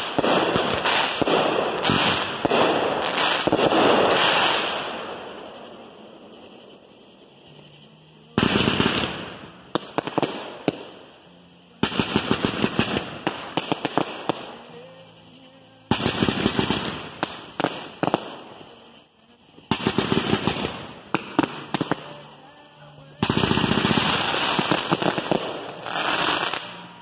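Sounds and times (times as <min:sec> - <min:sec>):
fireworks sharp bangs: 0:00.0 - 0:06.6, 0:08.3 - 0:14.9, 0:15.9 - 0:19.0, 0:19.6 - 0:22.6, 0:23.2 - 0:27.0
fireworks crackling pops: 0:00.0 - 0:27.0.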